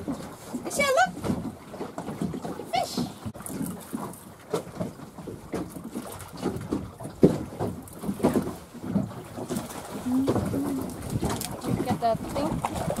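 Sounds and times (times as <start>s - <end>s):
water slapping against boat hull: 0.0s - 13.0s.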